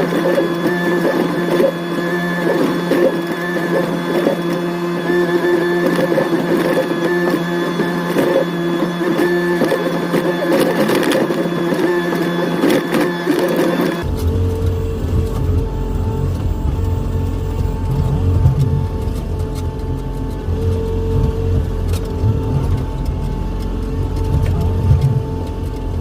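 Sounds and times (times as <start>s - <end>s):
excavator engine whine: 0.0s - 26.0s.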